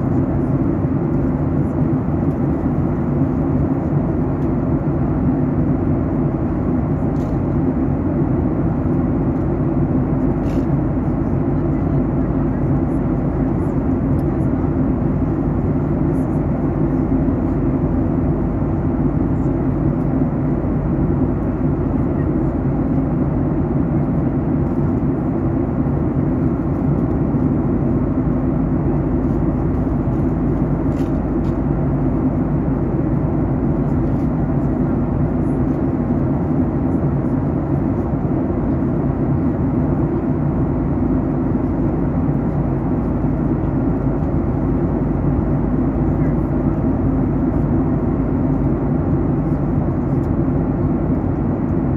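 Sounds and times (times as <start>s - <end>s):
airliner cabin rumble: 0.0s - 51.9s.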